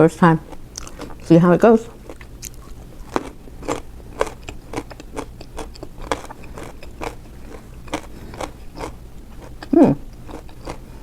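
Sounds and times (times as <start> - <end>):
crunchy chewing: 0.4 - 11.0.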